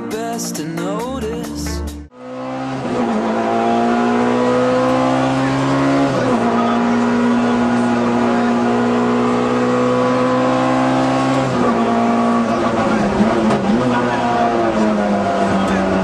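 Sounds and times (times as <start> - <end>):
rally car engine accelerating: 2.1 - 16.0.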